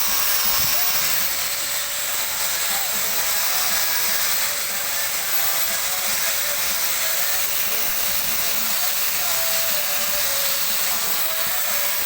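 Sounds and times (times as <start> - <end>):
power tool motor whine: 0.0 - 12.0.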